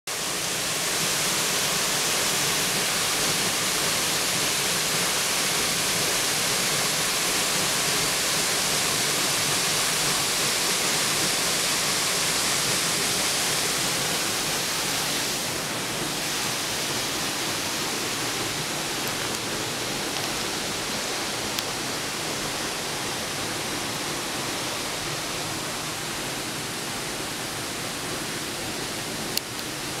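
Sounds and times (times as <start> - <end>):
waterfall pouring into pool: 0.1 - 30.0.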